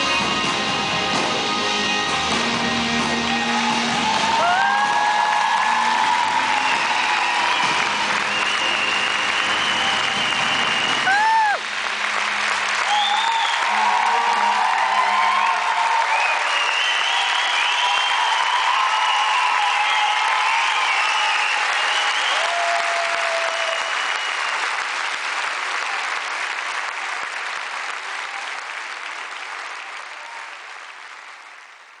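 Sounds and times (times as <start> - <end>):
audience applauding and cheering: 0.0 - 32.0.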